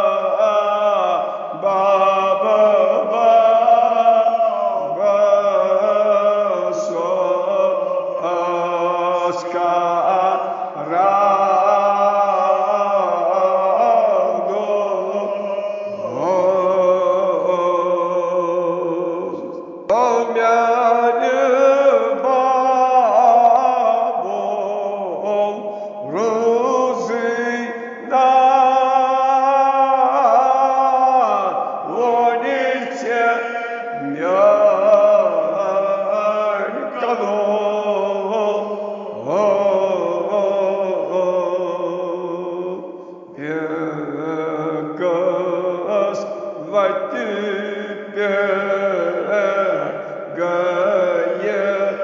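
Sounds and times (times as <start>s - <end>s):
man chanting: 0.0s - 52.0s.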